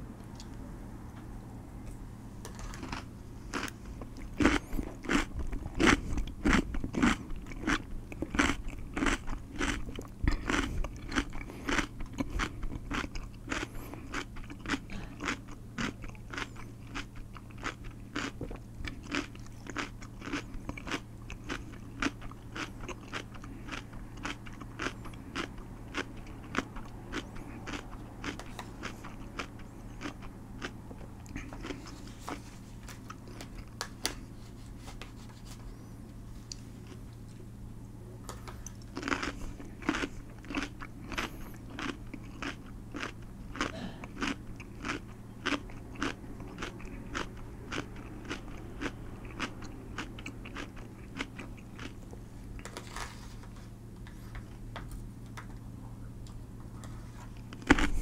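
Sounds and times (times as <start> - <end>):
man chewing crunchy food: 2.4 - 37.5, 38.3 - 55.4, 56.2 - 58.0.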